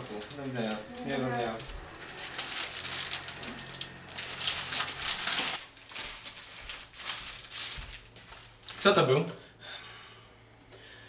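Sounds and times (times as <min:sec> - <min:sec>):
paper wrapping rustling: 0:00.0 - 0:09.3.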